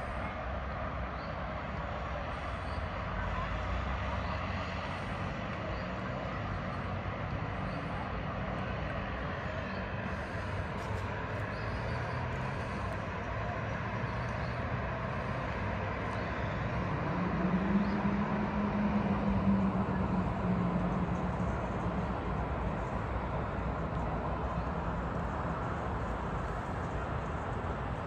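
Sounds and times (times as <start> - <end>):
distant road traffic hum: 0.0 - 28.0
low steady drone: 0.0 - 28.0.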